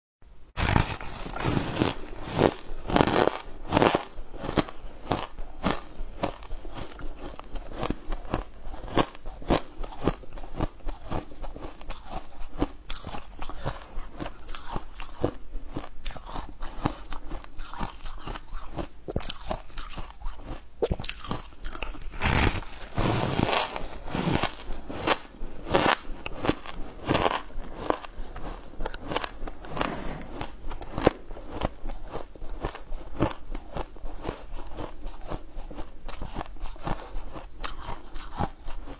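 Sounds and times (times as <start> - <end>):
person chewing crunchy snack: 0.6 - 38.9.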